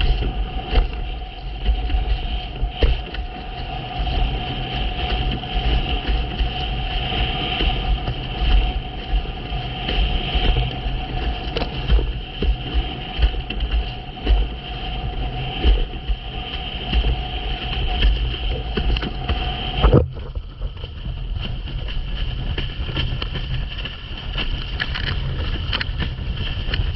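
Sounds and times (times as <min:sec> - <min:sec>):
high whine: 0:00.0 - 0:26.9
water rushing past board: 0:00.0 - 0:26.9
wind buffeting microphone: 0:00.0 - 0:26.9.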